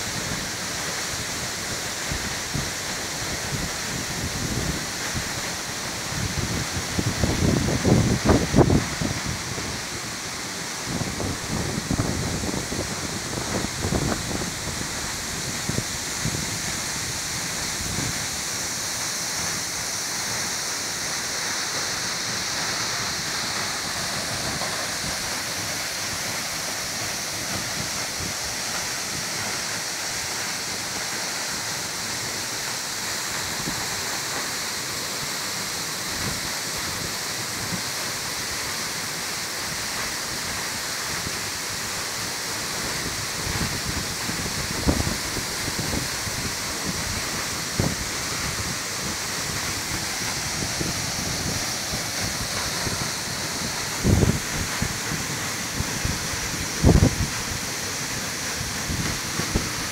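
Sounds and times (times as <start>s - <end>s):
waterfall pouring onto rock: 0.0s - 59.9s.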